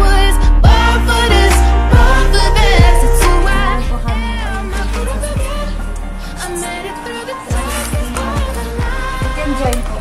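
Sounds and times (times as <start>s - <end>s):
pop song with sung vocals: 0.0s - 10.0s.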